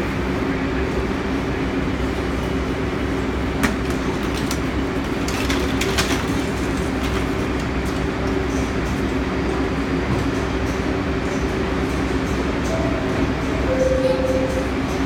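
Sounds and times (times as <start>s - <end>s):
subway train rumble and hum: 0.0s - 15.0s.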